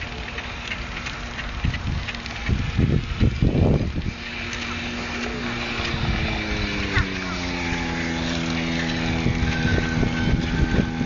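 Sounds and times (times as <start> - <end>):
distant engine hum: 0.0 - 11.0
wind buffeting microphone: 0.4 - 11.0.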